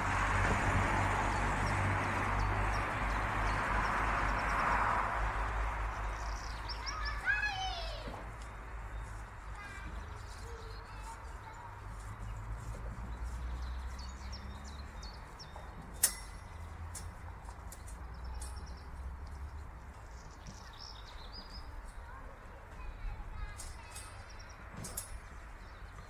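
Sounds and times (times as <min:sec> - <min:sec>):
birds chirping faintly: 0:01.3 - 0:26.0.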